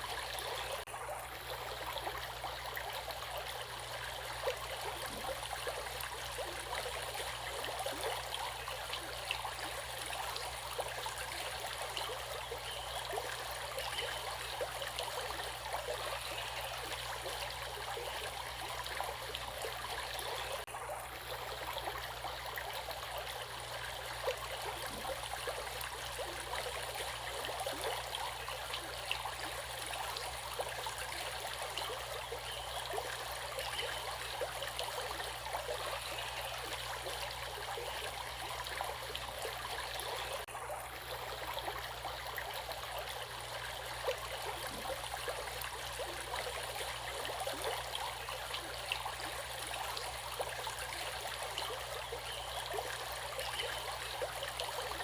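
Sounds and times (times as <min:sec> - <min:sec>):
stream flowing and splashing: 0:00.0 - 0:55.0.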